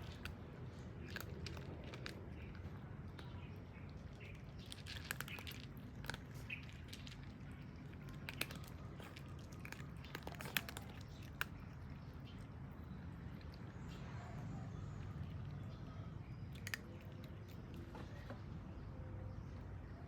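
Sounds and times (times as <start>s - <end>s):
cats chewing food: 0.0s - 18.6s.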